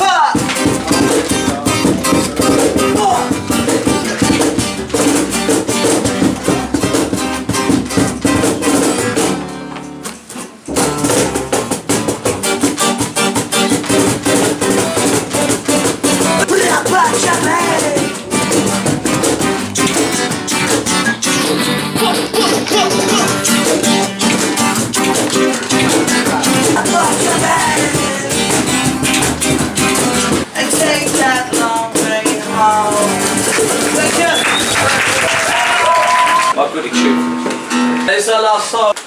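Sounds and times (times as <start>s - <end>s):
acoustic band playing ska: 0.0s - 39.0s.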